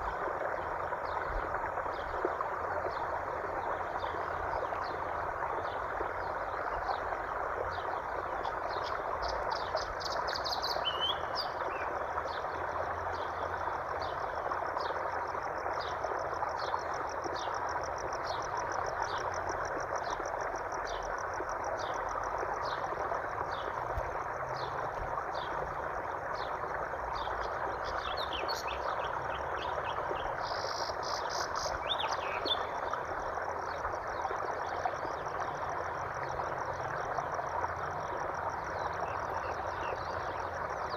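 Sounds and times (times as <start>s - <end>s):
flowing water rushing: 0.0s - 40.9s
frog or insect chirps: 1.9s - 40.9s.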